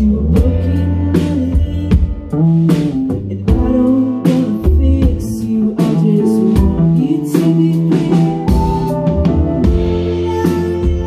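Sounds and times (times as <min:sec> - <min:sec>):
woman singing: 0:00.0 - 0:08.9
bass guitar: 0:00.0 - 0:11.0
electric guitar: 0:00.0 - 0:11.0
drum beat: 0:01.3 - 0:11.0.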